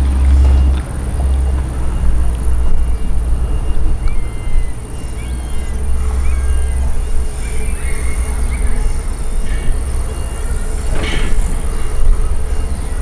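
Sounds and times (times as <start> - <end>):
birds chirping: 0.0 - 13.0
high insect hum: 0.0 - 13.0
wind rumble on microphone: 0.0 - 13.0.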